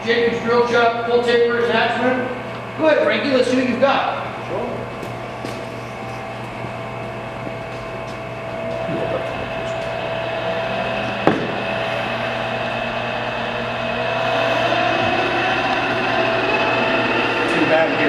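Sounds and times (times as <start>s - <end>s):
lathe humming and whining: 0.0s - 18.0s.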